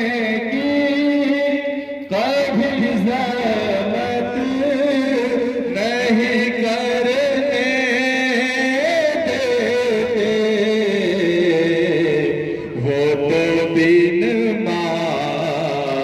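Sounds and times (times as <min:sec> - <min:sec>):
melodic devotional chanting: 0:00.0 - 0:16.0.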